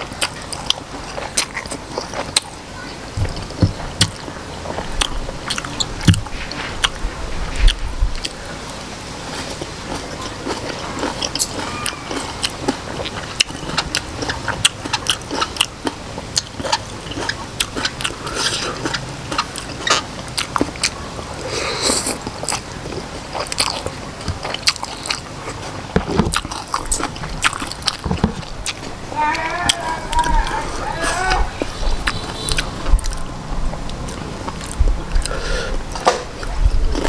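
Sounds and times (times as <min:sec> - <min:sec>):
wet mouth chewing clicks: 0:00.1 - 0:02.6, 0:03.2 - 0:08.4, 0:09.4 - 0:29.0, 0:31.3 - 0:37.0.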